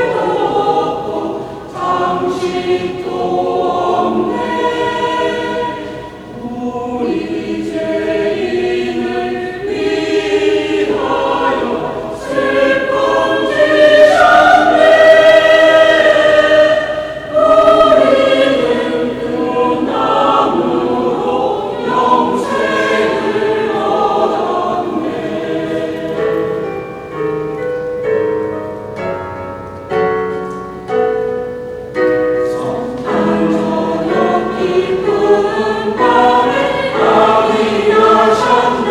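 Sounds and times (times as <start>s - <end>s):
choir singing with accompaniment: 0.0s - 38.9s.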